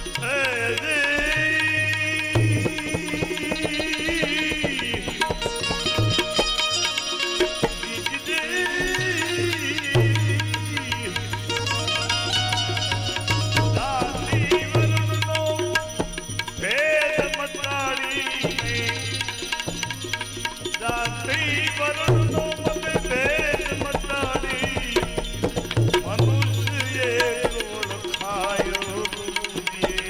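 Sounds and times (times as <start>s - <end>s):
ornamented melody line: 0.0s - 29.3s
tabla strokes: 0.0s - 30.0s.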